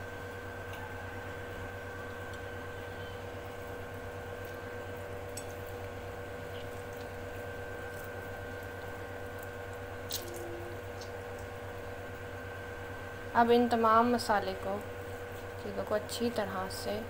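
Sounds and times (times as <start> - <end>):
steady tonal hum: 0.0 - 17.0.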